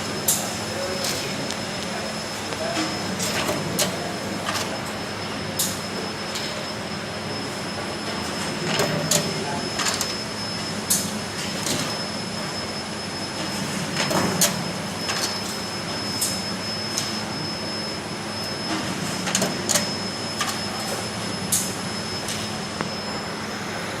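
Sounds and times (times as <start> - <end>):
washing machine humming and whirring: 0.0 - 24.0.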